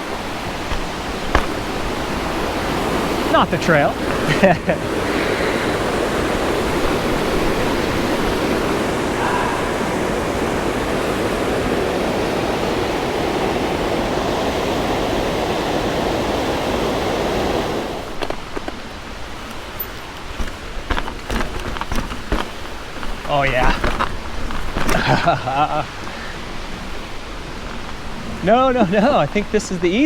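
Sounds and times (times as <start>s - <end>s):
waterfall rushing: 0.0s - 19.3s, 23.2s - 30.0s.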